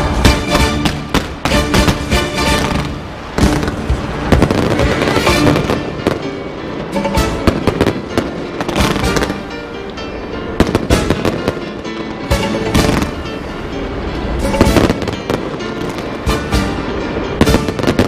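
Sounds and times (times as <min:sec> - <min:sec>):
fireworks bangs and crackles: 0:00.0 - 0:09.6, 0:10.6 - 0:18.0
loud music: 0:00.0 - 0:09.6, 0:10.6 - 0:18.0.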